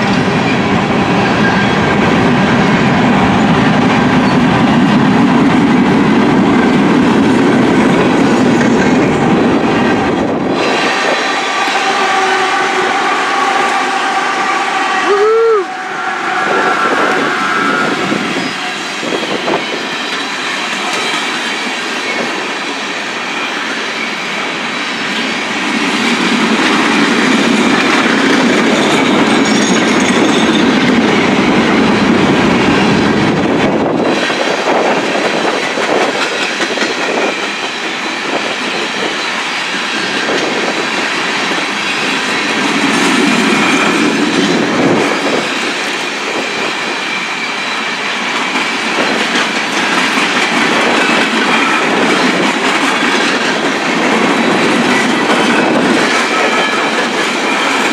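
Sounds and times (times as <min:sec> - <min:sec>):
train wheels clacking on rails: 0:00.0 - 0:14.8, 0:16.4 - 0:57.9.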